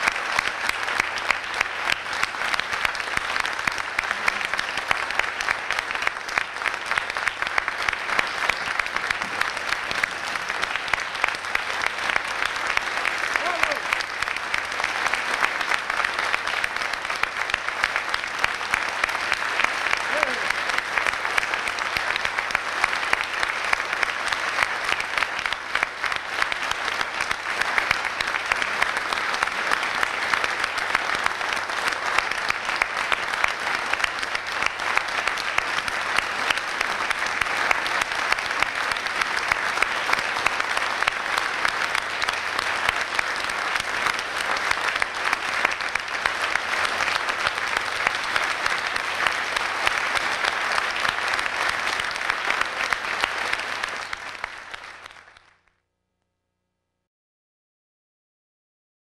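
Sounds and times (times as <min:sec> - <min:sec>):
audience clapping: 0:00.0 - 0:55.8.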